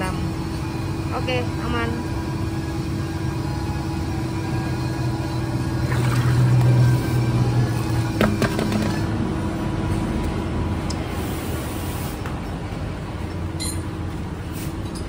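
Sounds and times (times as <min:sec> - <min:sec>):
mechanical hum and rumble: 0:00.0 - 0:15.0.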